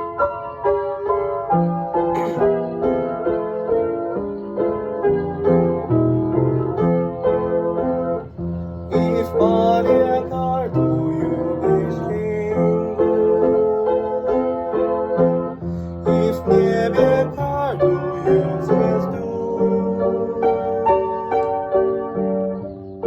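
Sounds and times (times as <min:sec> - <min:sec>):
piano piece: 0:00.0 - 0:23.0.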